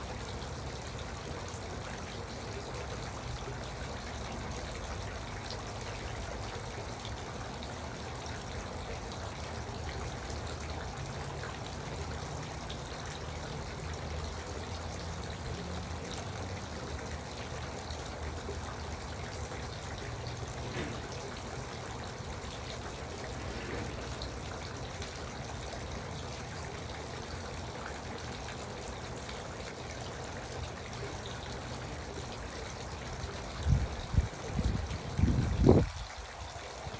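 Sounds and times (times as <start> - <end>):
water fountain trickling and splashing: 0.0 - 36.9.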